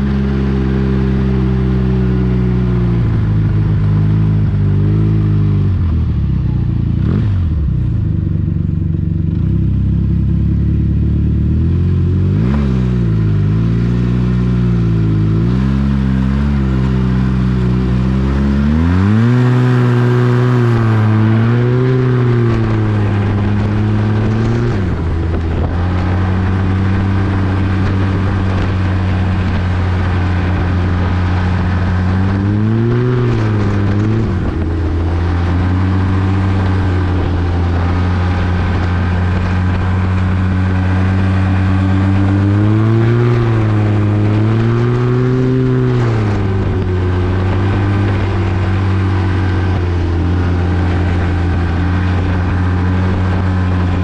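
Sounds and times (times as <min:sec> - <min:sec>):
snowmobile engine running hard: 0:00.0 - 0:54.0.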